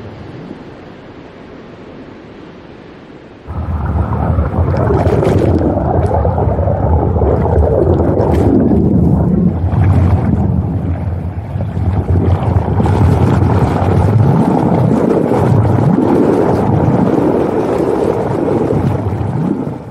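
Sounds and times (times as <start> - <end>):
ocean surf breaking: 0.0 - 19.9
deep rushing noise: 3.5 - 19.8
hissing splashes: 3.5 - 19.9.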